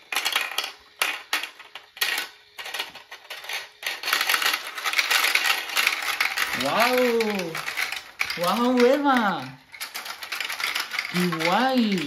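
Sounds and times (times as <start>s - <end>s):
plastic balls clattering down toy: 0.0s - 12.0s.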